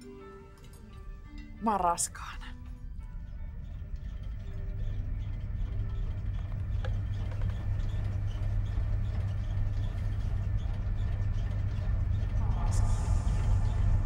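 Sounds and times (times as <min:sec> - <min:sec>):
loud low hum: 0:01.0 - 0:14.0.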